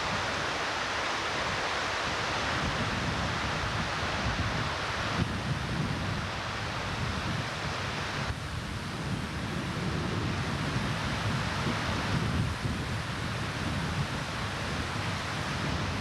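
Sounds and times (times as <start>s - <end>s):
floodwater rushing in a creek: 0.0s - 16.0s
wind on microphone: 1.3s - 16.0s.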